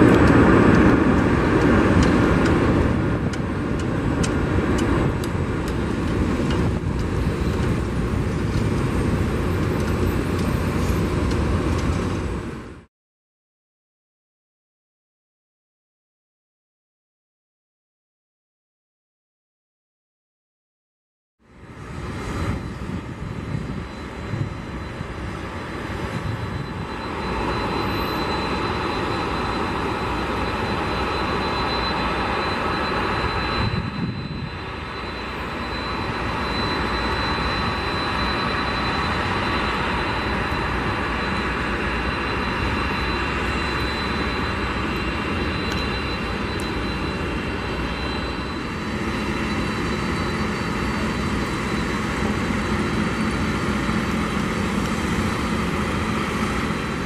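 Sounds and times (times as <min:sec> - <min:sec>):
turboprop engines running: 0:00.0 - 0:12.9, 0:21.4 - 0:57.0.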